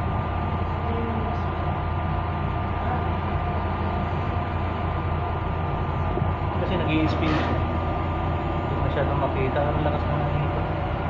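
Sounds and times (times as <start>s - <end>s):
thin constant tone: 0.0s - 11.0s
washing machine hum: 0.0s - 11.0s.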